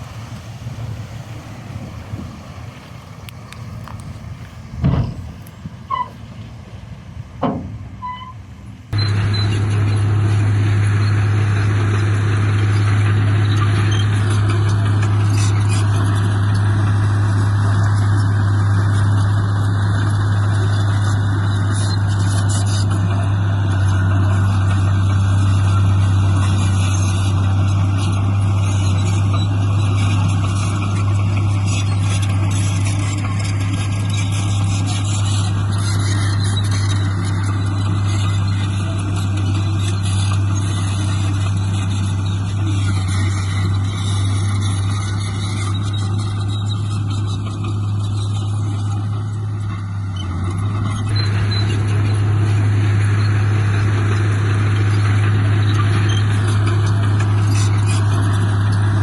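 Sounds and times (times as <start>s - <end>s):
construction machine diesel engine: 0.0s - 59.0s.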